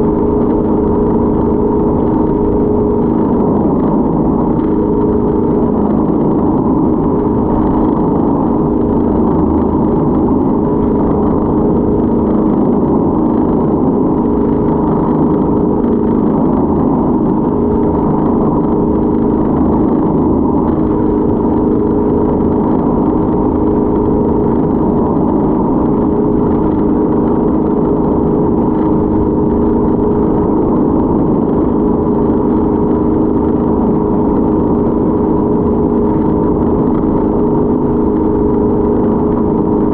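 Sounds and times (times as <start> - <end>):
motorboat engine droning: 0.0 - 39.9.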